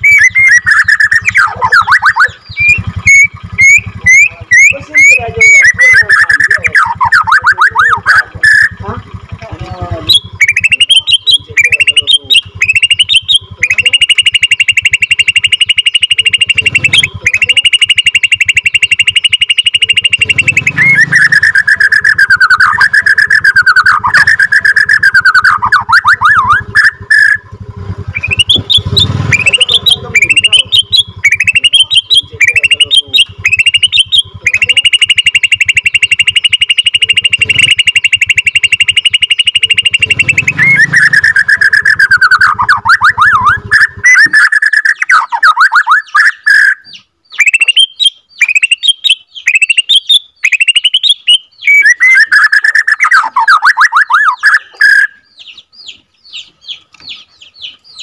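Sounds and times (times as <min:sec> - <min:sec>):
songbird whistles and trills: 0:00.0 - 0:08.8, 0:09.6 - 0:58.0.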